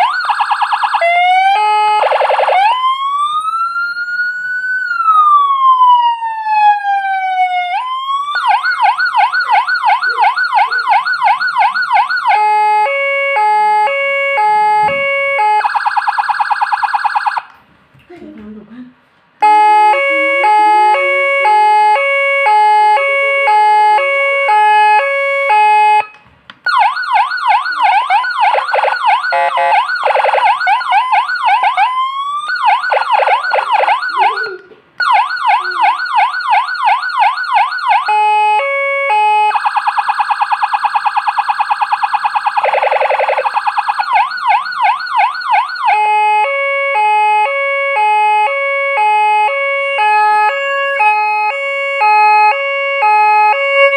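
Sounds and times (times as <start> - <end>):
electronic siren switching tones: 0.0 - 17.6, 19.4 - 53.9.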